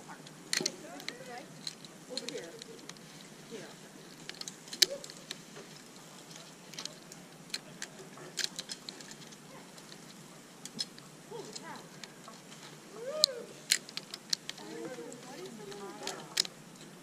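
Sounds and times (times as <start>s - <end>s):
faint voices: 0.0s - 10.5s, 11.2s - 17.0s.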